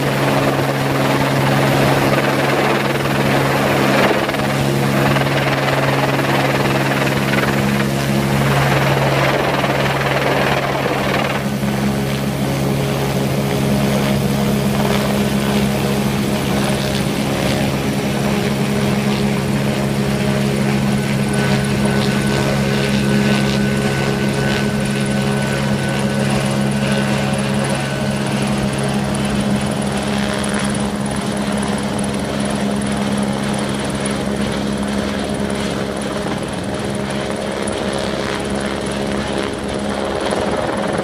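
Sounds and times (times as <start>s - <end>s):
helicopter rotor and engine drone: 0.0s - 41.0s.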